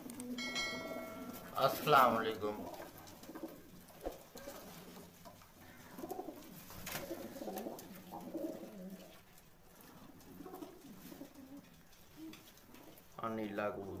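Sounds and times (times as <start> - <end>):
pigeons cooing: 0.0 - 13.2.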